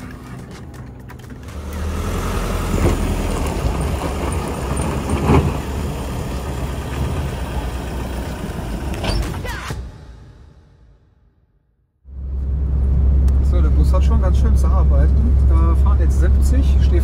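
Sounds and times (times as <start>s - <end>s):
van engine rumbling: 0.0s - 9.9s, 12.1s - 17.0s.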